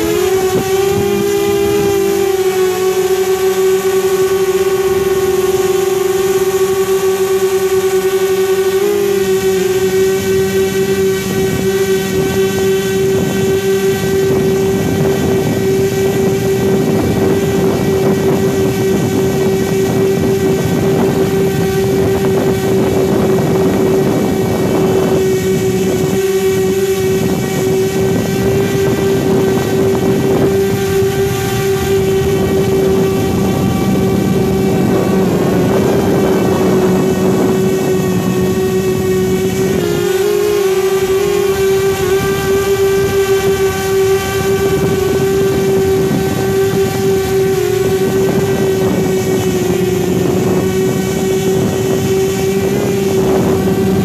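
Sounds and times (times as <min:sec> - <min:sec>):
quadcopter motors droning: 0:00.0 - 0:54.0.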